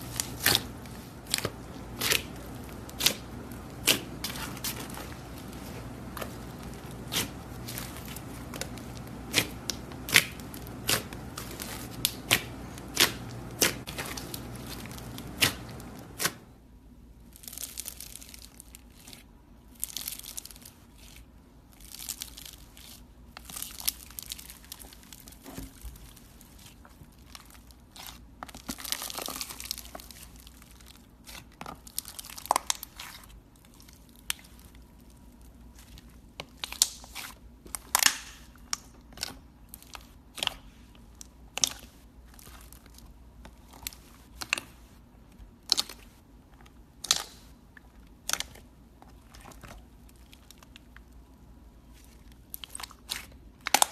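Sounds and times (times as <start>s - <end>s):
slime crackling and tearing: 0.0s - 16.4s, 17.3s - 44.7s, 45.6s - 47.5s, 48.1s - 53.9s.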